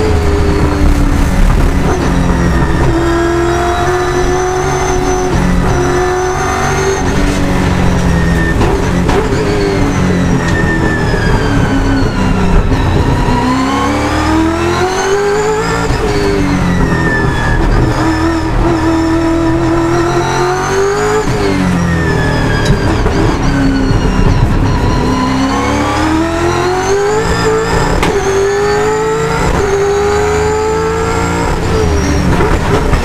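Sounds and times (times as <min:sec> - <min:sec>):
racing car engine: 0:00.0 - 0:33.0.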